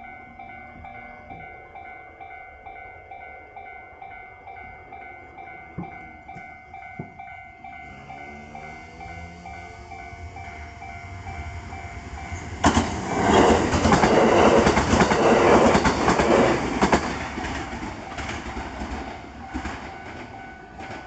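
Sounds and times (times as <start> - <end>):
crossing warning bell ringing: 0.0 - 21.0
train rushing past: 0.0 - 21.0.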